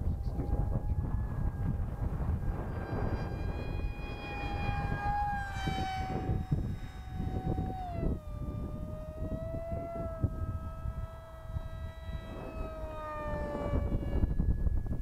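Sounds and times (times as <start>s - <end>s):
electric motor whining: 0.0s - 15.0s
wind rumbling on microphone: 0.0s - 15.0s.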